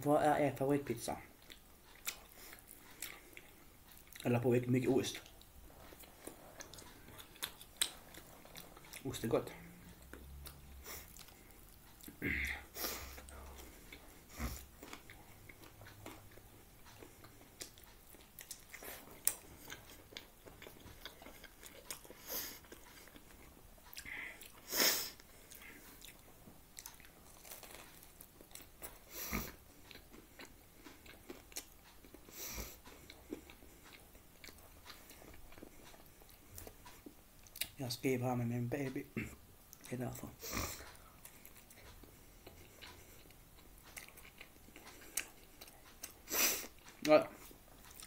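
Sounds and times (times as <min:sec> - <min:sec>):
biting and chewing pizza: 0:01.1 - 0:37.8, 0:39.8 - 0:48.0.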